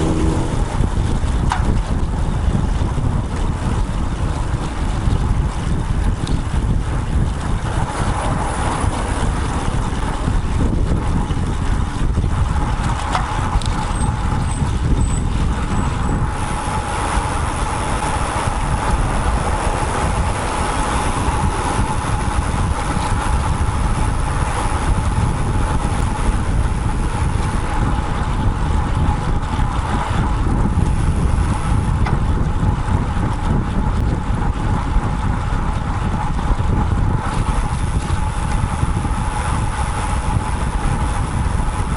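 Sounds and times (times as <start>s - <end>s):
road traffic: 0.0s - 41.9s
wind noise on microphone: 0.0s - 41.9s.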